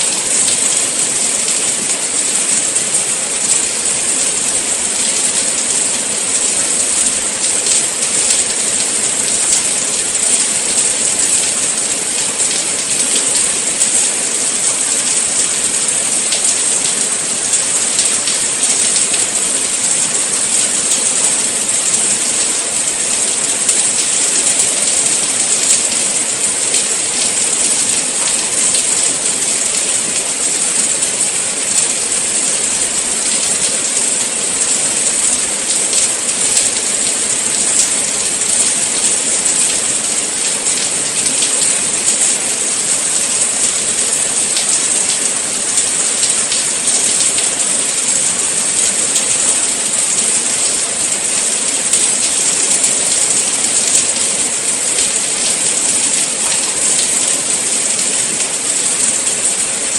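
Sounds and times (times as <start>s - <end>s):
raindrops pattering: 0.0s - 59.9s
steady rain hissing: 0.0s - 59.9s.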